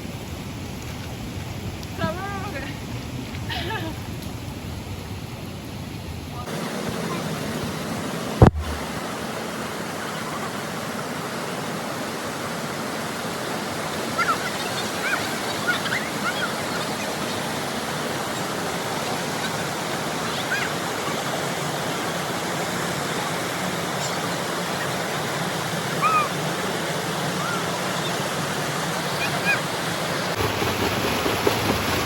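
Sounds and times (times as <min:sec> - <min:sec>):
waterfall roaring: 0:05.4 - 0:32.0.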